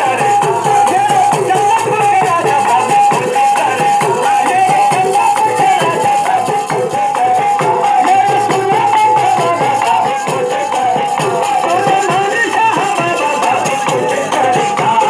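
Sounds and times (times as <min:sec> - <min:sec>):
dholak drum beat: 0:00.0 - 0:15.0
harmonium melody: 0:00.0 - 0:15.0.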